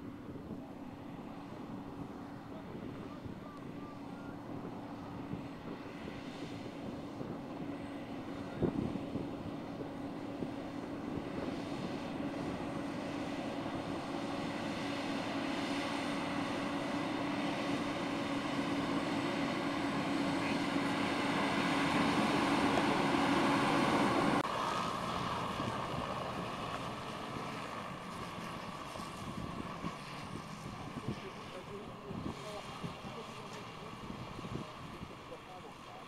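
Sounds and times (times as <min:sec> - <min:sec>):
truck engine and spreader humming: 0:00.0 - 0:36.0.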